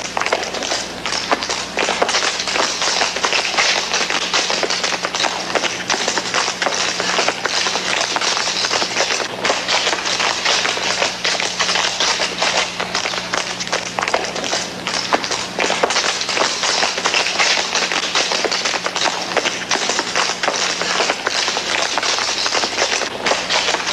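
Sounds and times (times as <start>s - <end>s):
dancing feet tapping on pavement: 0.0s - 23.9s
steady low hum: 0.0s - 23.9s.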